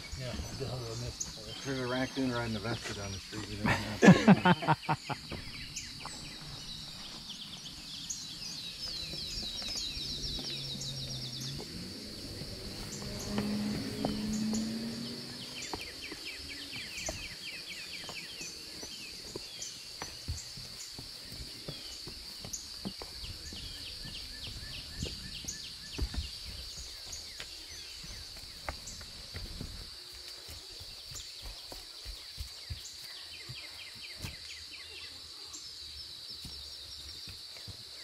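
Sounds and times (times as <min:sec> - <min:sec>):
insects droning: 0:00.0 - 0:38.0
soft footsteps on forest floor: 0:04.8 - 0:34.9, 0:36.3 - 0:38.0.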